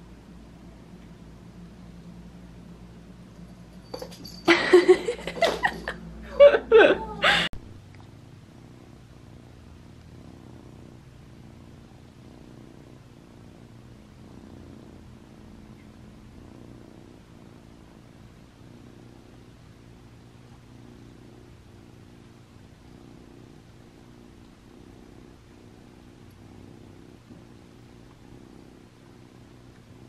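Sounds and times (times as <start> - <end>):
kitten purring: 0.0 - 6.1, 7.2 - 30.0.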